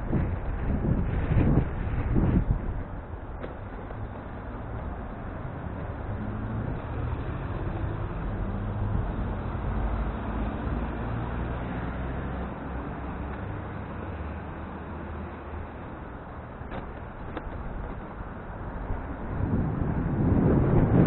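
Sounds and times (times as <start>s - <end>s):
wind and road noise on microphone: 0.0s - 21.0s.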